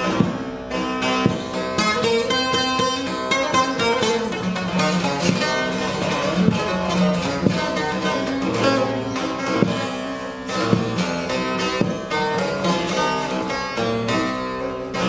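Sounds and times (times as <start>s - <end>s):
long-necked lute picked solo: 0.0s - 15.0s.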